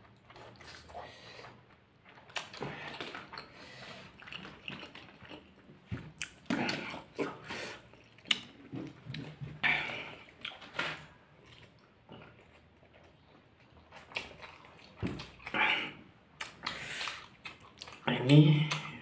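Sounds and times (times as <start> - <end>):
chewing and lip smacks: 0.0 - 9.5, 10.1 - 10.7, 11.4 - 15.6, 16.4 - 19.0.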